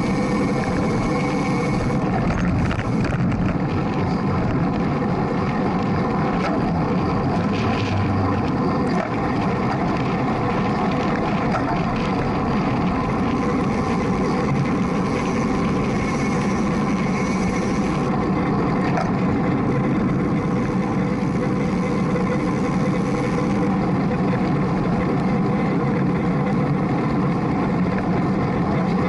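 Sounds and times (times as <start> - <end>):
bicycle road noise: 0.0 - 29.0
wind rush: 0.0 - 29.0.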